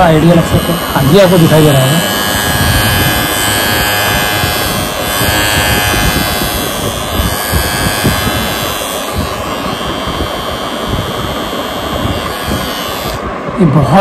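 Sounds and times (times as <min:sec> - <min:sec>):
electric trimmer humming: 0:00.0 - 0:14.0
trimmer rubbing on skin: 0:00.0 - 0:14.0.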